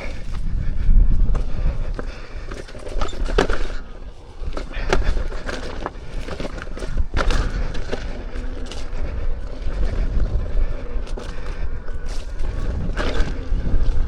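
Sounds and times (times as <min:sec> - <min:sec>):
wind buffeting microphone: 0:00.0 - 0:14.0
wheel knocks and rattles: 0:01.4 - 0:14.0.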